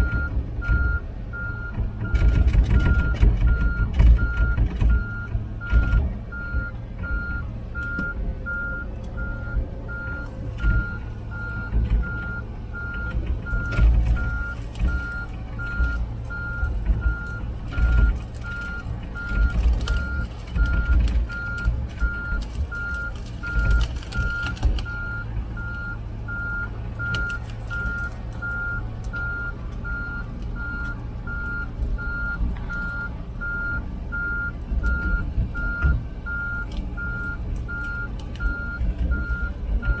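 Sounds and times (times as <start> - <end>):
diesel engine running: 0.0 - 40.0
track knocks and rattles: 0.0 - 40.0
travel alarm beeping: 0.0 - 40.0.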